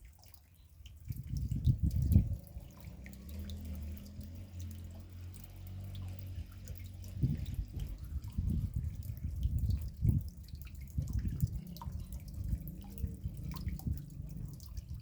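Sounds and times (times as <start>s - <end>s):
raindrops dripping: 0.0s - 15.0s.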